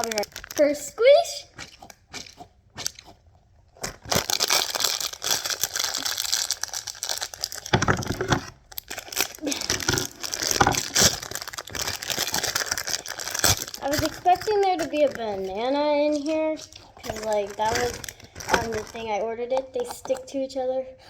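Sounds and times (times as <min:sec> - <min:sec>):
plastic packaging crinkling: 0:00.0 - 0:00.9, 0:03.8 - 0:20.3.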